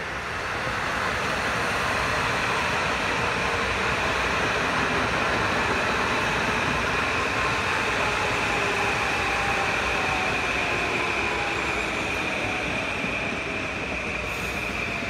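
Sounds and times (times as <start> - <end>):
train wheels rushing past: 0.0 - 15.0.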